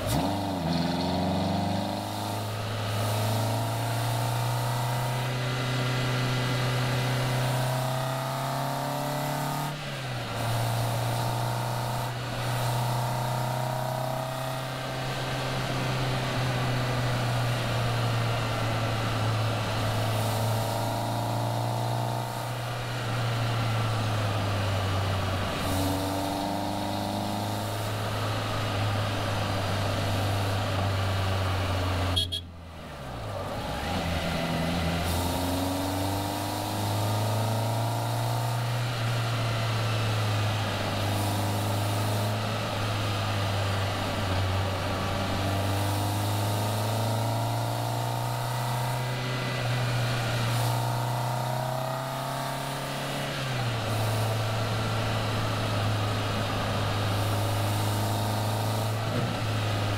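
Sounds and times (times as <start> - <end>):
car engine revving: 0.0 - 59.9
wind and road noise: 0.0 - 59.9.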